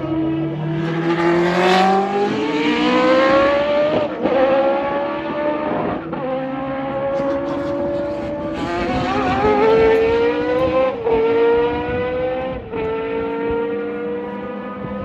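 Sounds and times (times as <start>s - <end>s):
race cars accelerating past: 0.0s - 15.0s.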